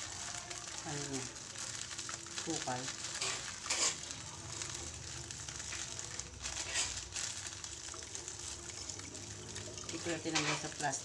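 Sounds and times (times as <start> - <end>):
plastic bag crinkling: 0.0 - 11.0
sugar pouring into water: 0.0 - 11.0.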